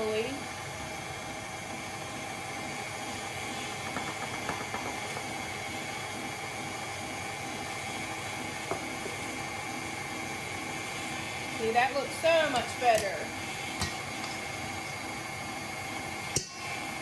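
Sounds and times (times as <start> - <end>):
stand mixer motor humming: 0.0 - 17.0.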